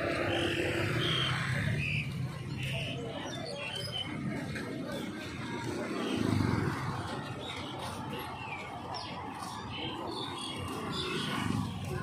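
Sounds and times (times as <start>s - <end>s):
open-air market background noise: 0.0s - 12.0s.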